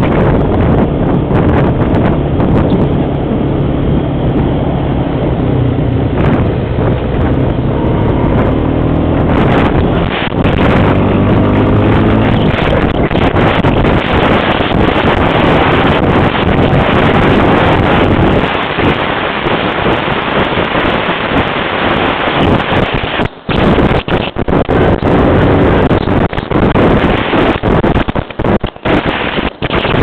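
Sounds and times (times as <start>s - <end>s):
atv engine running: 0.0s - 21.0s, 22.0s - 29.9s
wind buffeting microphone: 0.0s - 30.0s.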